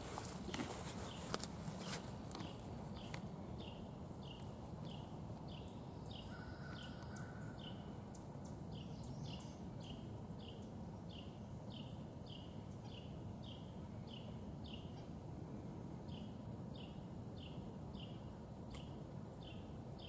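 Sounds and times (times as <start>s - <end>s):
low outdoor hum: 0.0s - 20.0s.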